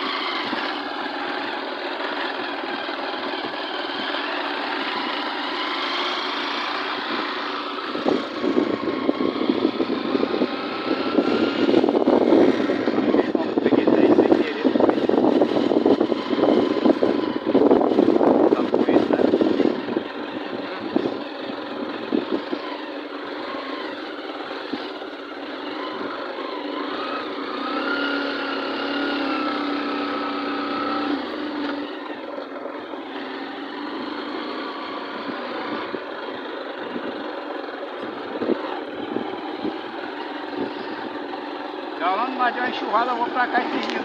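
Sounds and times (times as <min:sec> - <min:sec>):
road and wind noise: 0:00.0 - 0:44.0
vehicle engine running: 0:00.0 - 0:44.0.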